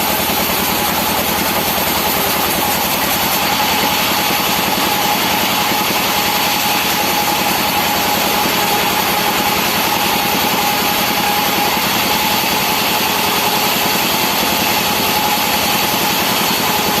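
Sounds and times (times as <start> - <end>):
machine whine: 0.0 - 17.0
sawmill machinery running: 0.0 - 17.0.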